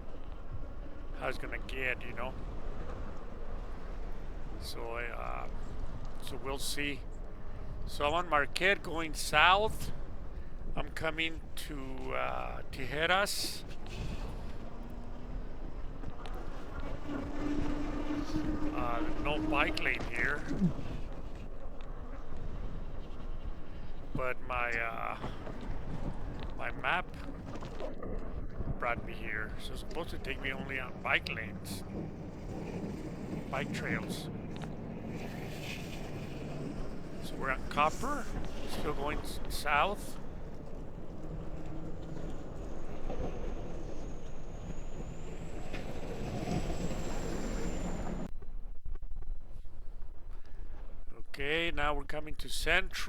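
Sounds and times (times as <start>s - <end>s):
faint road rattles: 0.0s - 48.6s
wind buffeting microphone: 0.0s - 51.1s
low thumps of wind: 0.0s - 51.2s.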